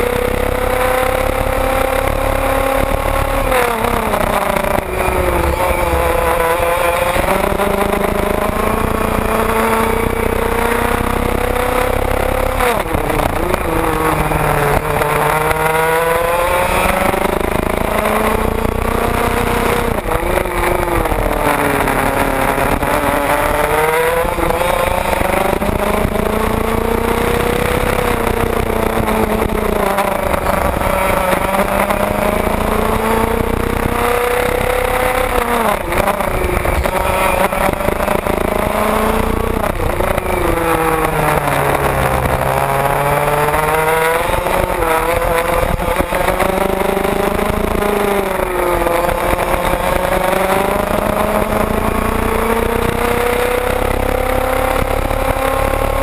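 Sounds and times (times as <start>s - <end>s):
racing kart engine revving: 0.0s - 56.0s.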